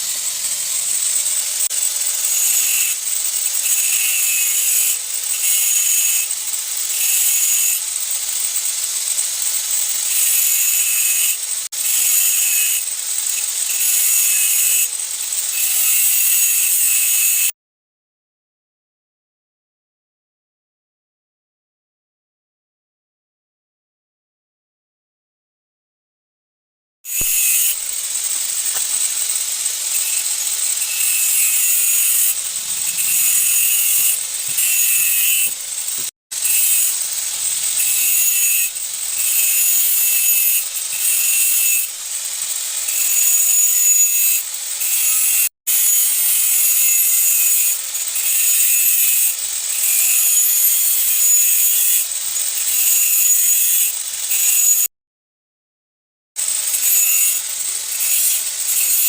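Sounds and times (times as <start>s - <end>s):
hacksaw cutting metal: 0.0s - 17.5s, 27.1s - 54.9s, 56.4s - 59.0s.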